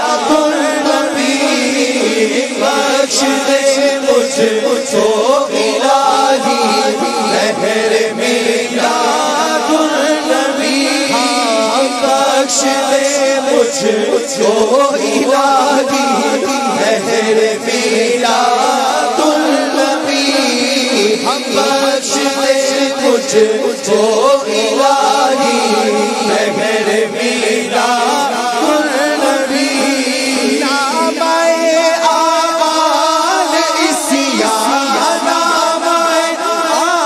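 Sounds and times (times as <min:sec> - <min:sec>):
voices chanting together: 0:00.0 - 0:37.0.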